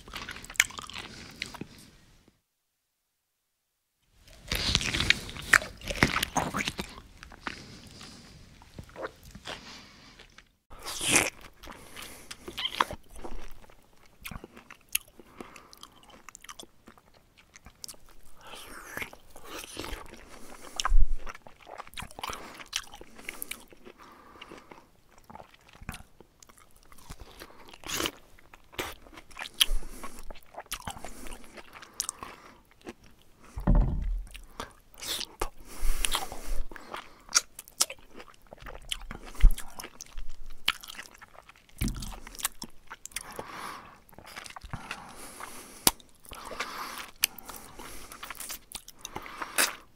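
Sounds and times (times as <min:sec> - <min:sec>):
bear chewing and crunching: 0:04.4 - 0:49.9.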